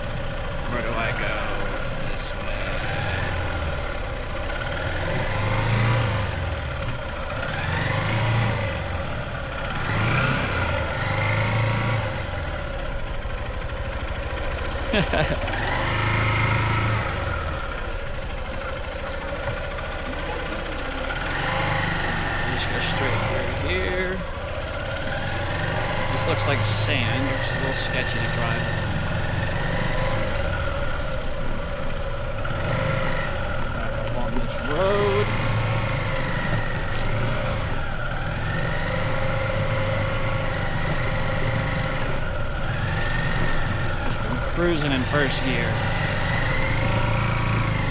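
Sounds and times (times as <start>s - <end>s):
small motorbike engine running: 0.0s - 47.9s.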